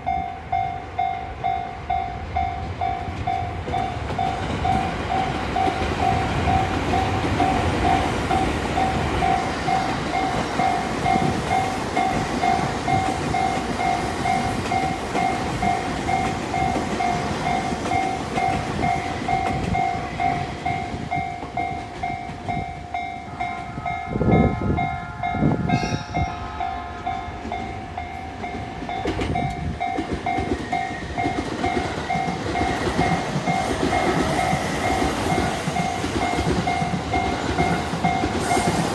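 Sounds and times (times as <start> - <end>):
train rumbling past: 0.0 - 38.9
wheels clacking on rail joints: 1.0 - 23.8, 27.0 - 38.9.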